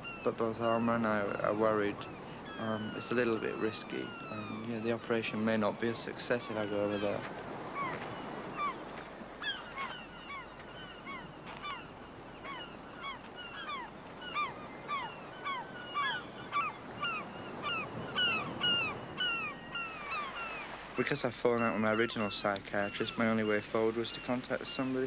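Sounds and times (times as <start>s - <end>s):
gulls calling: 0.0s - 25.0s
waves breaking on beach: 0.0s - 25.0s.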